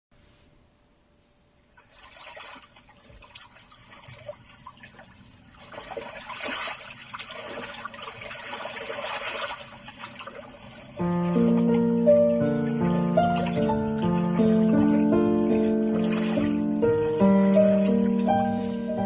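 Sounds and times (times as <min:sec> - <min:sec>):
water splashing and trickling: 0:01.7 - 0:19.0.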